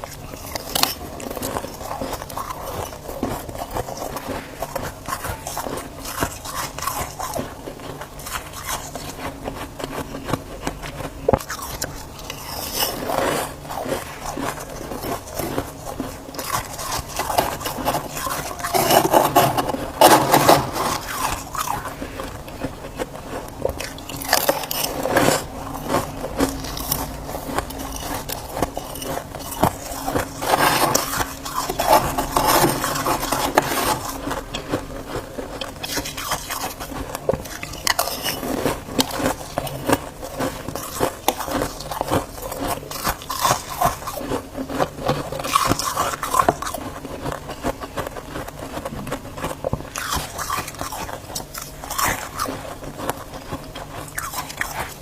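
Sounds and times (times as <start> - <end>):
frost crunching and scraping: 0.0 - 55.0.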